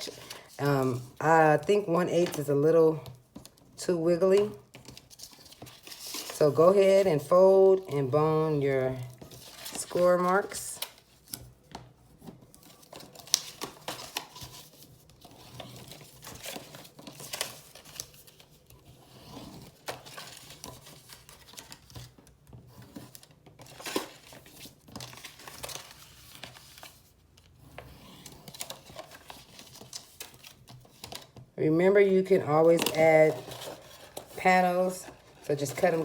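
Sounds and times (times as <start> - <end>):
cardstock crinkling and creasing: 0.0 - 8.0, 8.9 - 31.5, 32.3 - 36.0.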